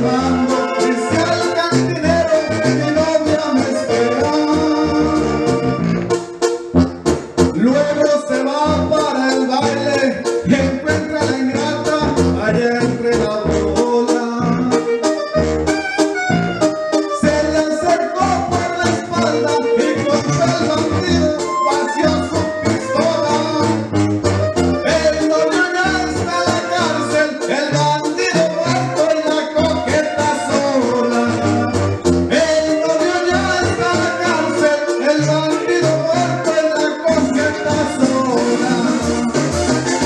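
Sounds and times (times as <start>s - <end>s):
man singing into a microphone: 0.0s - 5.9s, 7.5s - 15.1s, 17.1s - 23.9s, 24.7s - 39.4s
latin backing music with accordion: 0.0s - 40.0s.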